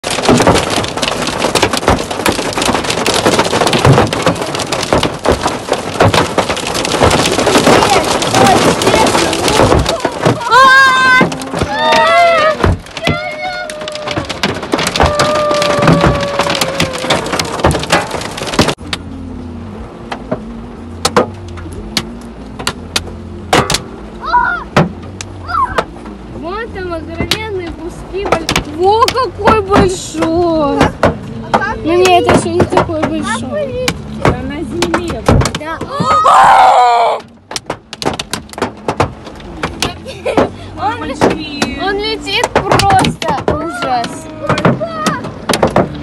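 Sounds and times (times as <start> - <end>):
hail clattering on car roof: 0.0 - 19.0, 20.1 - 46.0
heavy rain rushing: 0.0 - 46.0
windscreen wipers: 0.0 - 46.0.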